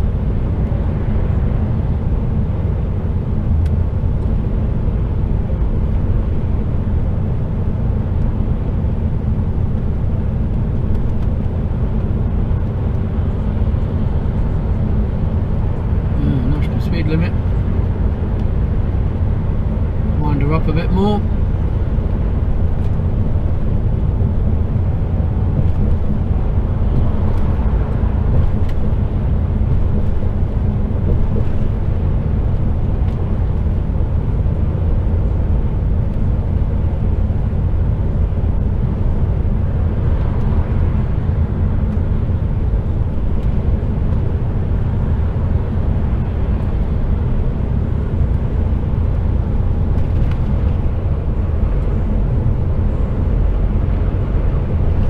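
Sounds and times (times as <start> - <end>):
road noise: 0.0 - 55.0
truck diesel engine from cab: 0.0 - 55.0.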